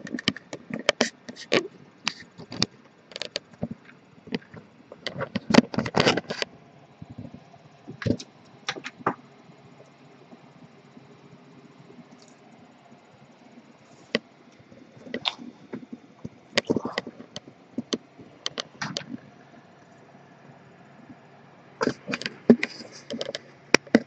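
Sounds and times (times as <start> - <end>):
computer hum: 0.0 - 24.0.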